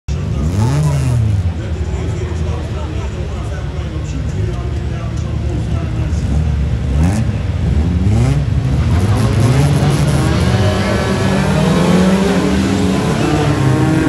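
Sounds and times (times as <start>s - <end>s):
race car engines revving: 0.1s - 14.0s.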